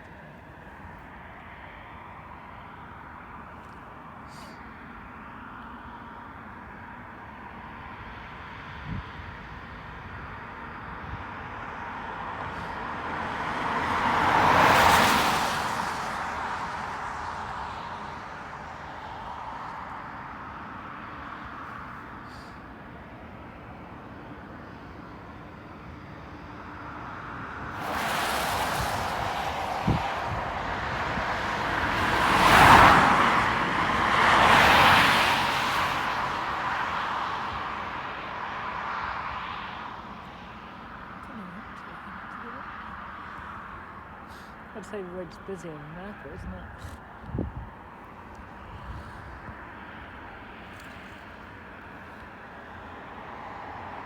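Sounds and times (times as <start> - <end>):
car passing by: 7.4 - 54.0.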